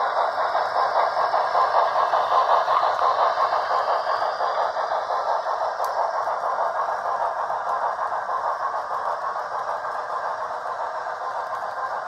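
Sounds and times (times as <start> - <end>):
model train rattling on track: 0.0 - 12.0.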